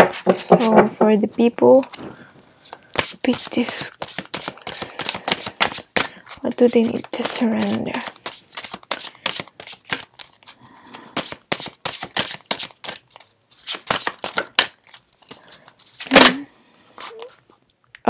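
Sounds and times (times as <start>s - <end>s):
cards being shuffled: 1.9s - 16.4s, 17.0s - 17.4s.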